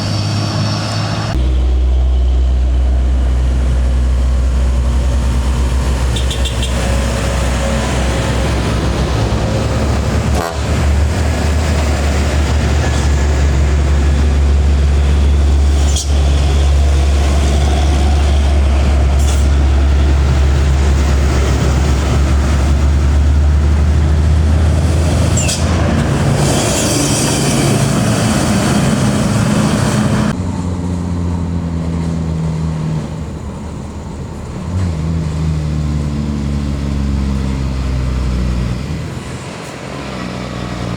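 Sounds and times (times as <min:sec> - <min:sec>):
diesel truck engines labouring: 0:00.0 - 0:40.9.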